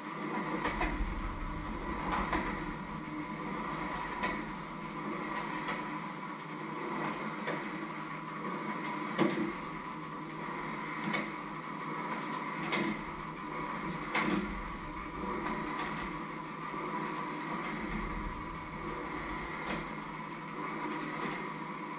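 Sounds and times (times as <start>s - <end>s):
electrical hum: 0.0s - 8.7s, 9.3s - 21.9s.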